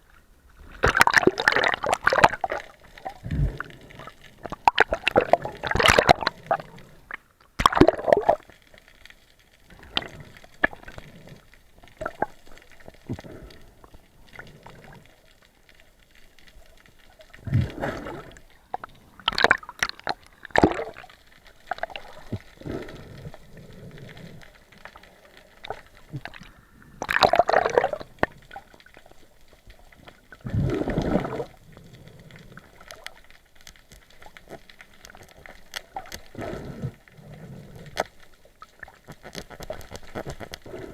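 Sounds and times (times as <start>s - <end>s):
quiet water bubbling: 0.0s - 40.9s
water gurgling and splashing: 0.0s - 40.9s.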